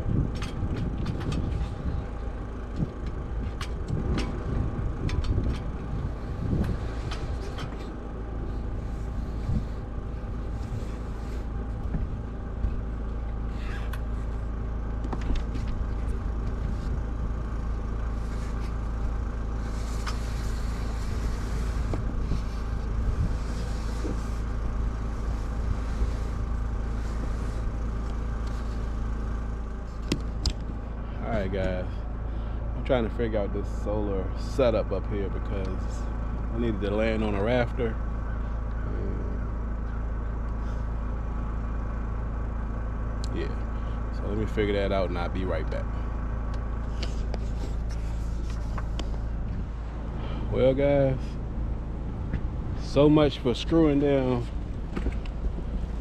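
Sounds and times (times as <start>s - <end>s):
low motor hum: 0.0s - 56.0s.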